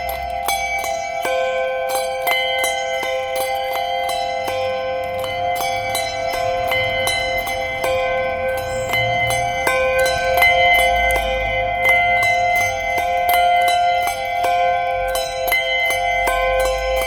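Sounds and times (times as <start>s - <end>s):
handbells ringing: 0.0s - 17.0s.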